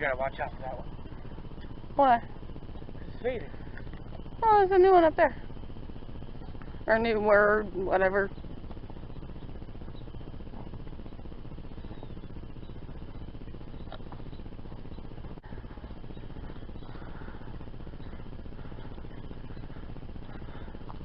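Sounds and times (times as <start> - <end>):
low rumbling noise: 0.0 - 21.0.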